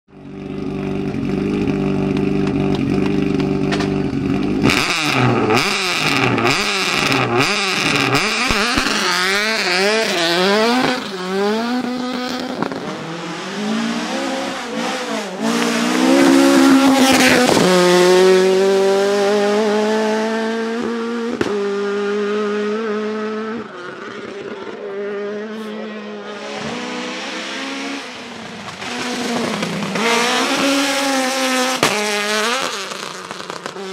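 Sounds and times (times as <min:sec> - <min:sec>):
rally car engine revving: 0:00.2 - 0:33.9.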